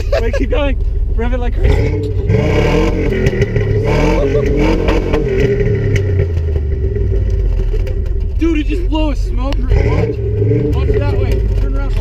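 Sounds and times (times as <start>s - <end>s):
car engine revving hard: 1.5s - 12.0s.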